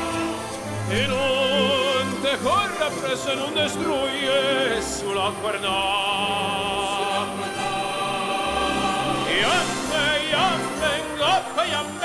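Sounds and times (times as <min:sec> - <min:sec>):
operatic singing: 0:00.0 - 0:12.0.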